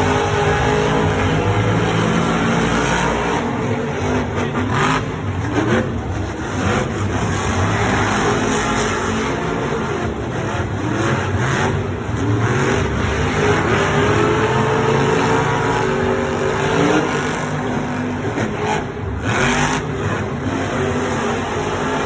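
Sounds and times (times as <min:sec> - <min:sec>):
truck engines revving loudly: 0:00.0 - 0:22.0.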